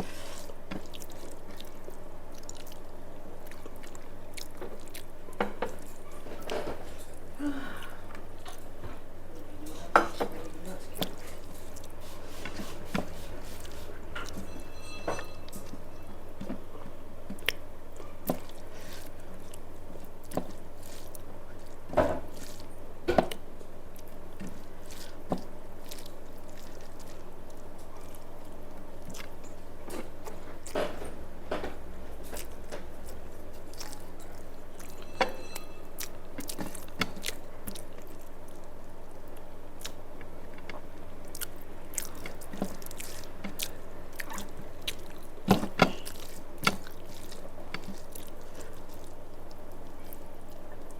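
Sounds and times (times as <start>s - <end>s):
person chewing food: 0.0s - 9.2s, 10.6s - 50.9s
steady background hum: 0.0s - 50.9s.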